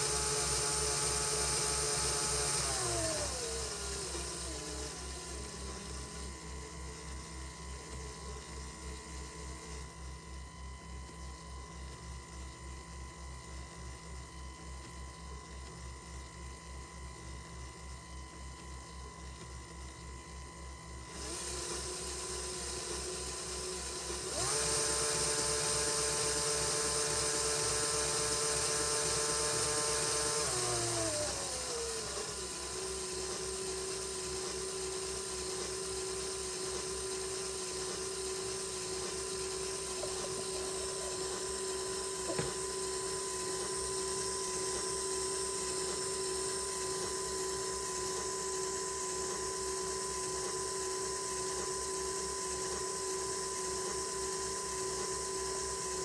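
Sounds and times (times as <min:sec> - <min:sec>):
small electric motor whining: 0:00.0 - 0:56.0.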